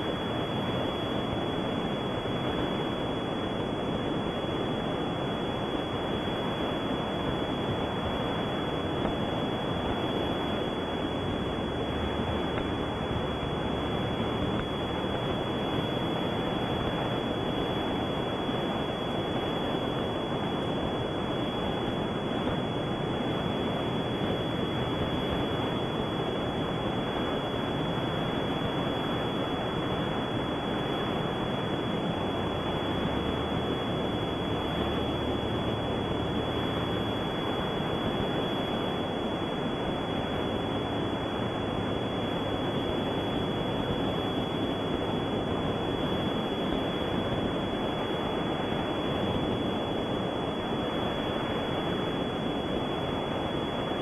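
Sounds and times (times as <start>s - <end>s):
faint high whine: 0.0s - 54.0s
steady rushing noise: 0.0s - 54.0s.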